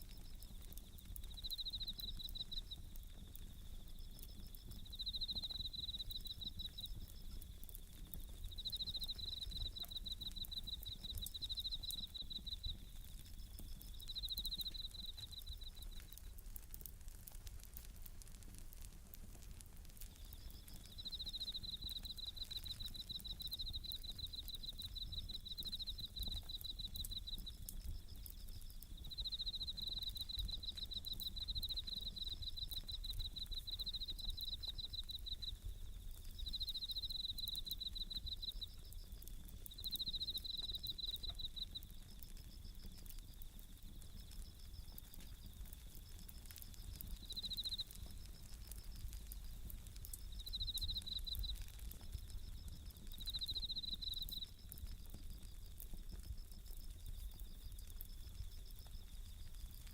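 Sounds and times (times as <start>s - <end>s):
crickets trilling: 0.0s - 59.9s
wood fire crackling: 0.0s - 59.9s.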